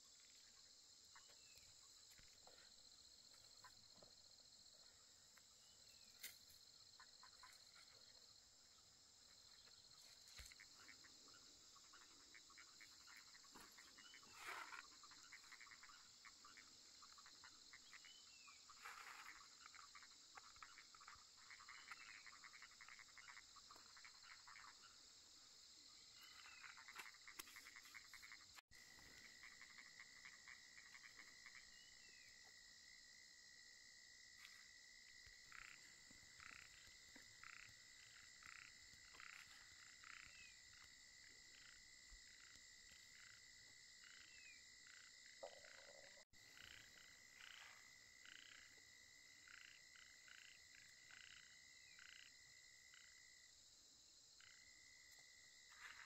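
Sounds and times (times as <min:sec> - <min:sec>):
insects trilling: 0:00.0 - 0:56.0
frogs calling: 0:04.8 - 0:53.4, 0:54.4 - 0:56.0.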